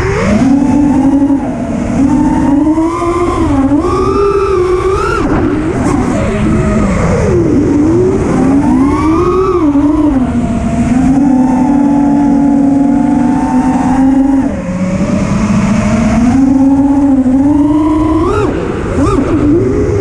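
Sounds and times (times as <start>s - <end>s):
quadcopter motors buzzing whine: 0.0s - 20.0s.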